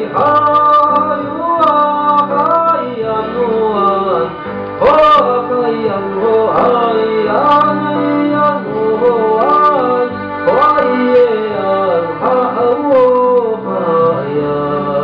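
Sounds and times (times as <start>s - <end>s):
instrumental backing: 0.0s - 15.0s
male and female voices singing: 0.0s - 15.0s.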